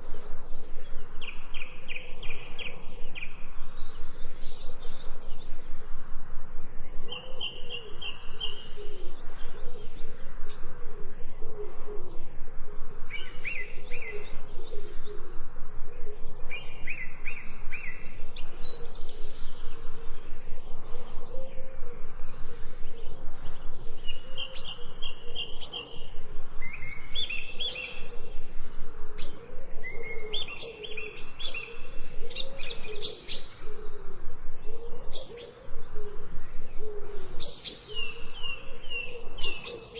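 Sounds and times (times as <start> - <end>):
low wavering bird calls: 0.0 - 39.9
songbirds chirping and singing: 0.0 - 39.9.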